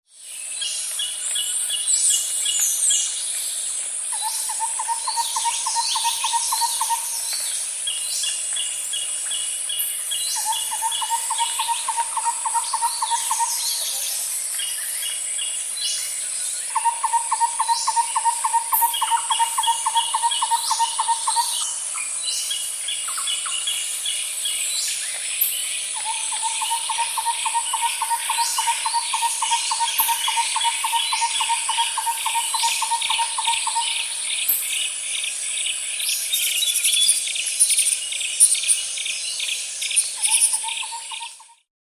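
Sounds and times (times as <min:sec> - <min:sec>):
steady high insect buzz: 0:00.1 - 0:41.6.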